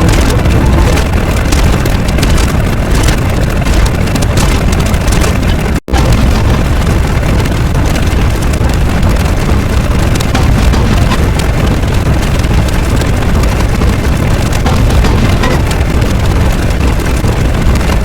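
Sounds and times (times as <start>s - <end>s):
loud low rumbling noise: 0.0s - 18.0s.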